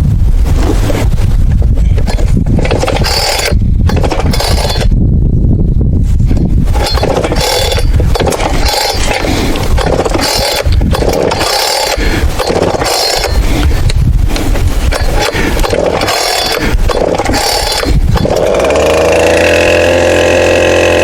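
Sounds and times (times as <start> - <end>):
low rumble: 0.0 - 20.8
chainsaw engine turning over: 2.0 - 4.9, 6.7 - 21.0.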